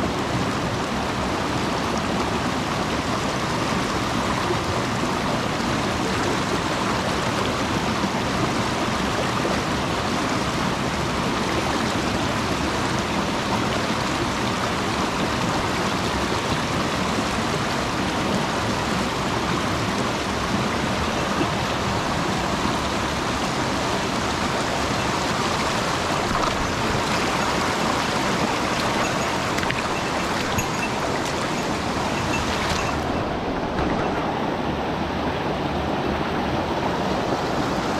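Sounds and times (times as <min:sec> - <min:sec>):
stream water rushing: 0:00.0 - 0:37.9.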